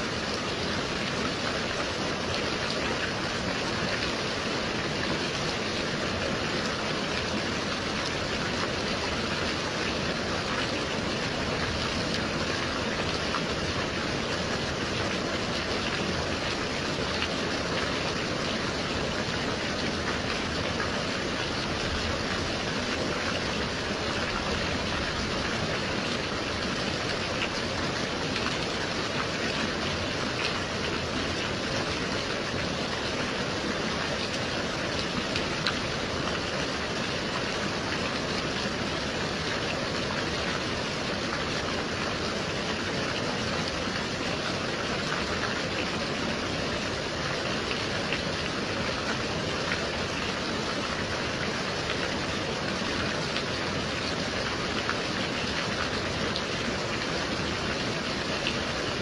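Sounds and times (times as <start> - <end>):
gentle rain hiss: 0.0 - 59.0.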